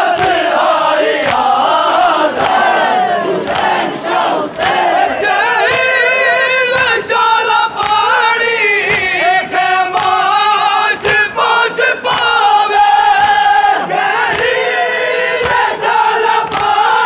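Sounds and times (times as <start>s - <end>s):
crowd noise: 0.0s - 17.0s.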